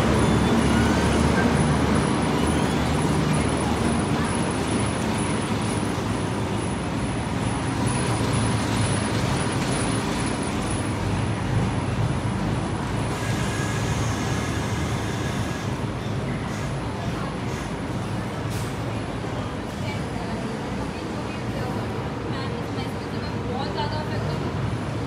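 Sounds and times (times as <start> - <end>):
bus engines and traffic rumble: 0.0 - 25.0.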